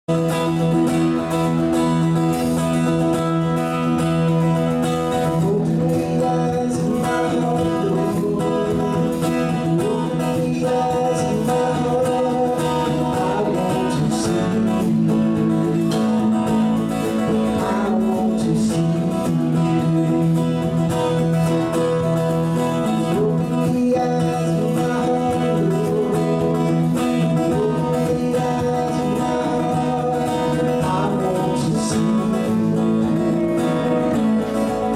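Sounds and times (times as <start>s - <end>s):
drums: 0.0s - 34.9s
electric bass: 0.0s - 34.9s
electric guitar: 0.0s - 34.9s
strummed acoustic guitar: 0.1s - 34.9s
man singing: 4.3s - 34.9s.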